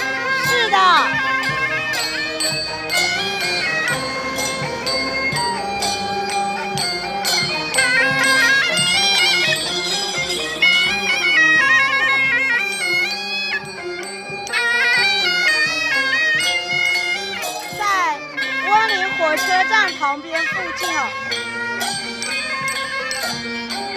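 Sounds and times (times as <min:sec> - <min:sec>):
percussion strokes: 0:00.0 - 0:23.9
reed wind instrument melody: 0:00.0 - 0:23.9.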